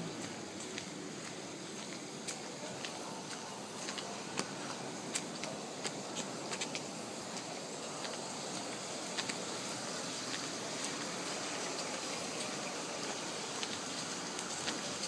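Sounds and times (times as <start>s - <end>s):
rain hissing: 0.0s - 15.0s
raindrop ticks: 0.1s - 15.0s.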